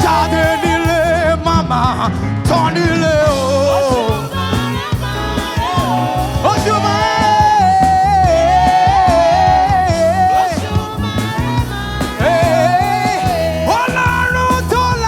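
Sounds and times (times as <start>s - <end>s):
singer holding long note: 0.0s - 1.5s, 3.1s - 14.6s
gospel band playing: 0.0s - 15.0s.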